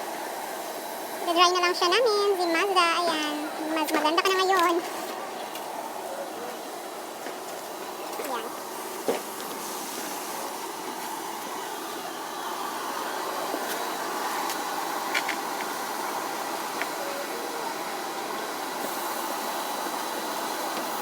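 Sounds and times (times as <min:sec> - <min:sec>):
car wash machine whooshing: 0:00.0 - 0:21.0.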